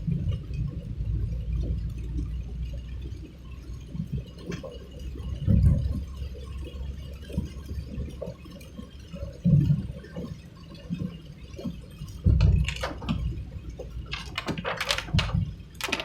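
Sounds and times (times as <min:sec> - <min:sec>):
road rumble: 0:00.0 - 0:16.0.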